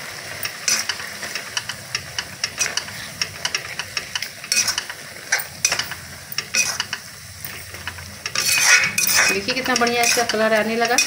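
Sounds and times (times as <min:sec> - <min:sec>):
mixture sizzling: 0:00.0 - 0:11.0
steel spoon scraping a pan: 0:00.4 - 0:11.0.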